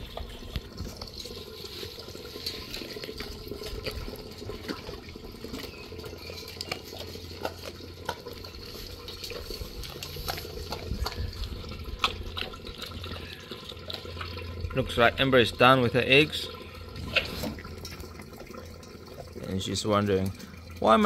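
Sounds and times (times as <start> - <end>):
dogs slurping meat: 0.0 - 21.0.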